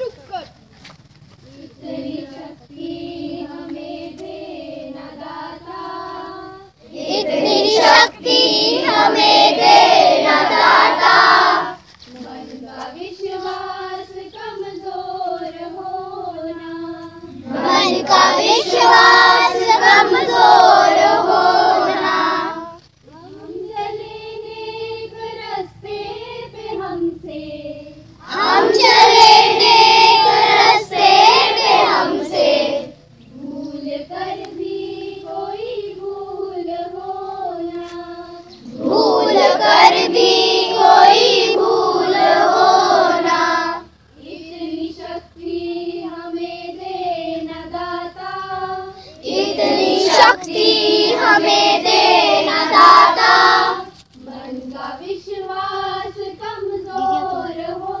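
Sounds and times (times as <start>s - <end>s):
children singing: 1.6s - 58.0s.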